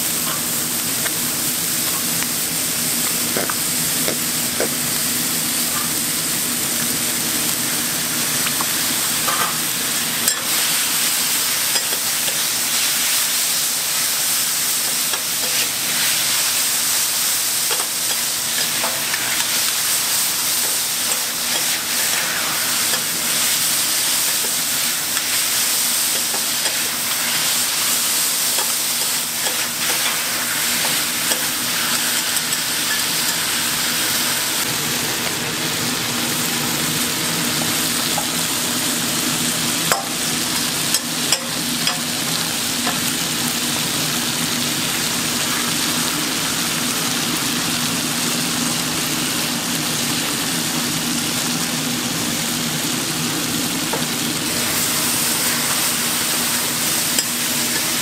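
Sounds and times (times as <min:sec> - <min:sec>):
noodles sizzling on griddle: 0:00.0 - 0:58.0.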